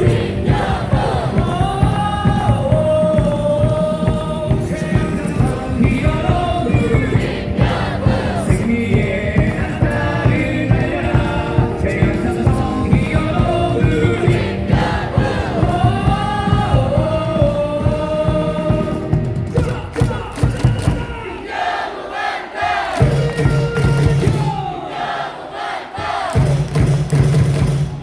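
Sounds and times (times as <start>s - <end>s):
crowd singing in chorus: 0.0s - 26.7s
stadium cheer song: 0.0s - 28.0s.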